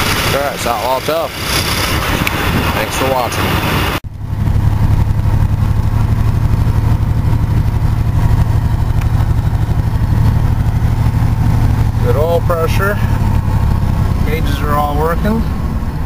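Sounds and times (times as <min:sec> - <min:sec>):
engine running with raspy exhaust: 0:00.0 - 0:16.0.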